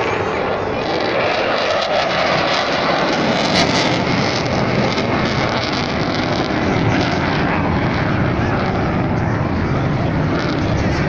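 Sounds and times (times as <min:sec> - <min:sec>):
jet flying past: 0:00.0 - 0:11.0.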